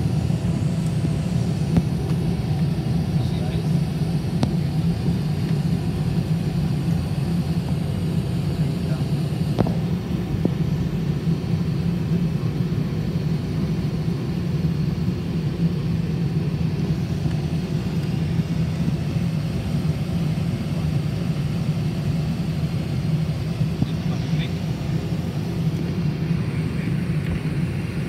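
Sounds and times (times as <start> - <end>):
jet cockpit rumble: 0.0 - 28.0.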